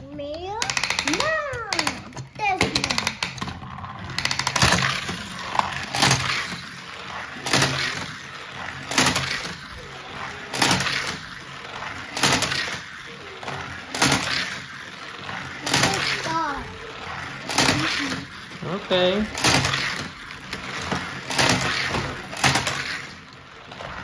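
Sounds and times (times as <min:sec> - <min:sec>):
toy cars rattling through plastic track: 0:00.0 - 0:24.0.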